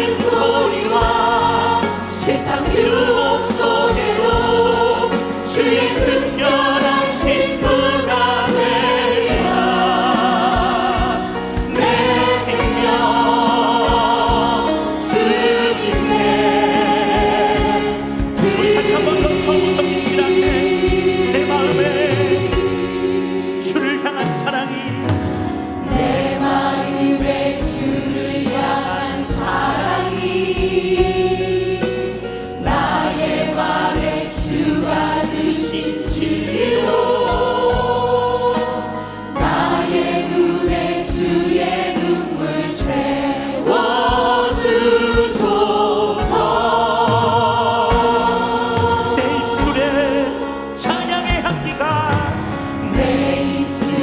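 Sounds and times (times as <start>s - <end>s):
band accompaniment: 0.0s - 54.0s
choir singing a praise song: 0.0s - 54.0s
steady drum beat: 0.0s - 54.0s.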